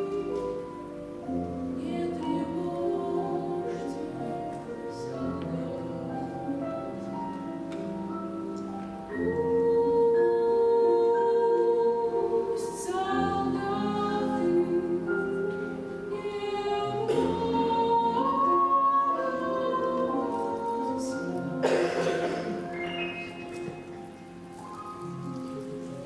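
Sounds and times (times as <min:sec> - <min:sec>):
song with held sung notes: 0:00.0 - 0:26.0.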